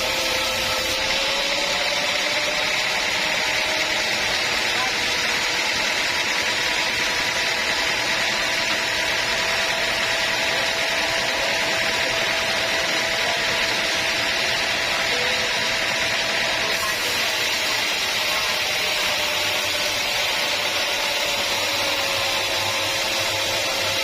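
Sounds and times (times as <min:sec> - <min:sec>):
sawmill saw cutting log: 0:00.0 - 0:24.0.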